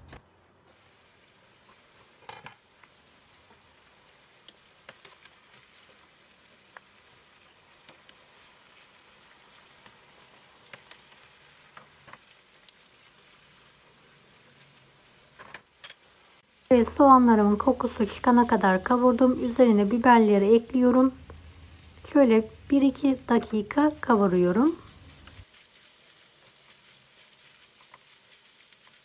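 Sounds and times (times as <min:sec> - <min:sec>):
meat and onions sizzling in a pan: 0:00.7 - 0:29.0.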